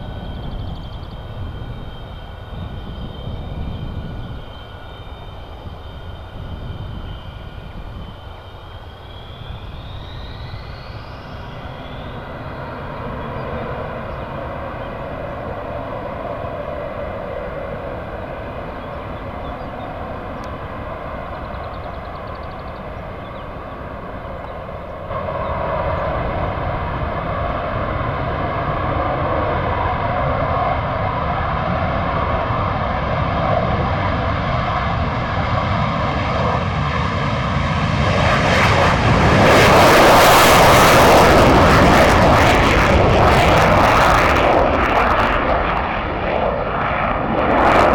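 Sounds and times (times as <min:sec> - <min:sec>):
jet engine rush and whine: 0:00.0 - 0:47.9.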